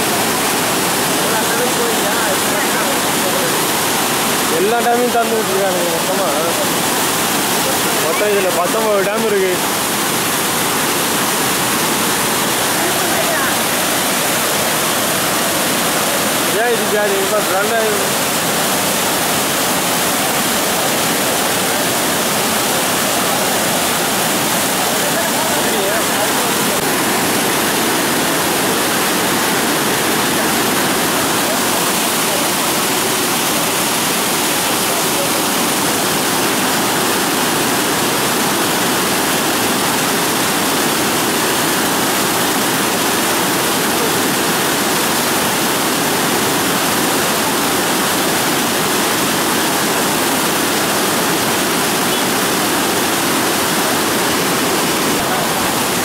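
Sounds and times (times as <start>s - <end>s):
turbulent water rushing: 0.0s - 56.0s.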